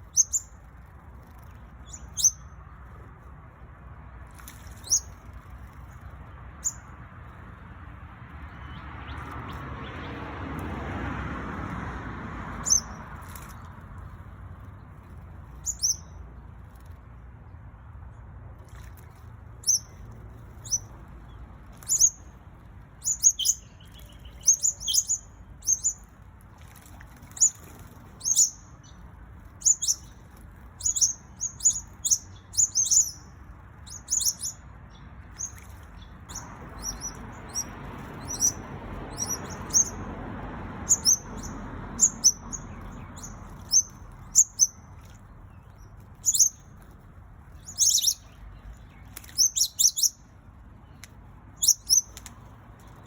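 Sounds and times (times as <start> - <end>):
small birds chirping: 0.0 - 3.2, 4.2 - 7.7, 12.6 - 17.0, 18.7 - 53.0.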